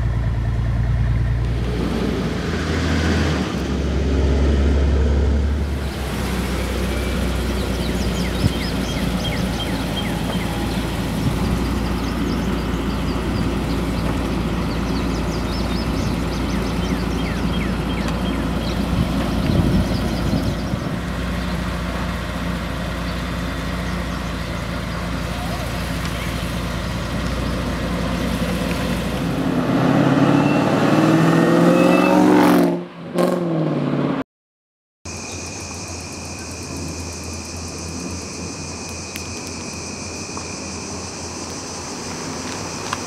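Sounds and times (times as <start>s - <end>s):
car engine idling: 0.0s - 2.9s, 3.6s - 29.6s, 35.1s - 43.0s.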